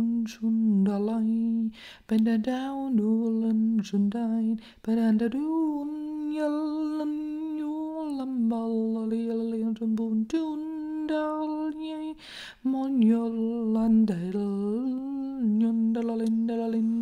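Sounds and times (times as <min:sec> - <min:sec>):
woman chanting: 0:00.0 - 0:17.0.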